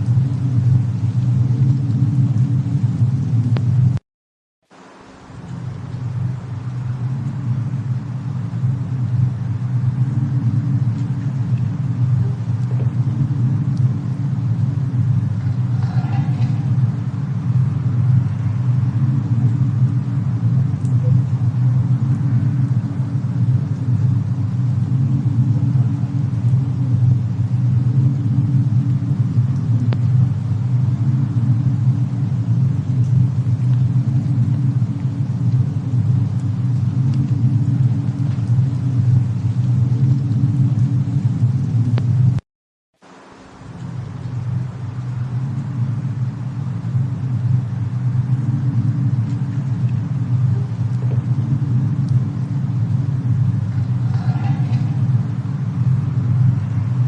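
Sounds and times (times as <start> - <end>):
faint fire crackle: 0.0 - 4.0, 4.6 - 42.4, 43.0 - 57.0
low rumble of snowstorm: 0.0 - 4.0, 4.7 - 42.4, 43.0 - 57.0.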